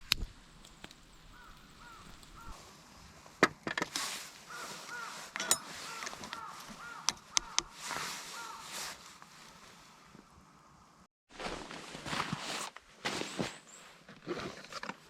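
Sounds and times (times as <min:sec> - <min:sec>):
rustling: 0:00.6 - 0:10.2, 0:11.3 - 0:15.0.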